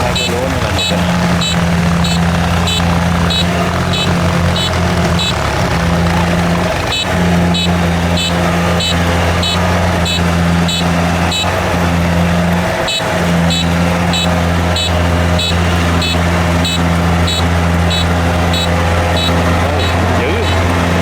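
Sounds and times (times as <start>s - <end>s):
diesel engine running under load: 0.0s - 21.0s
sharp regular ticking: 0.0s - 21.0s.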